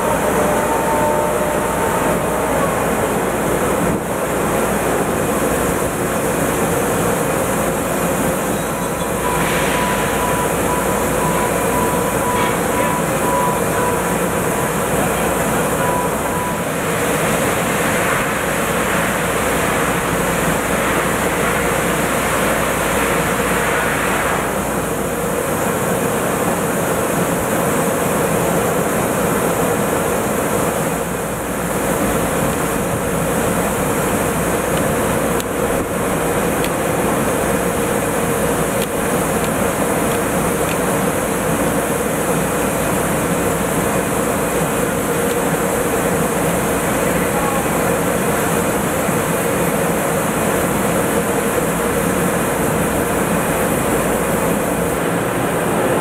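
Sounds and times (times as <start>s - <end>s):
industrial drilling machinery: 0.0s - 56.0s.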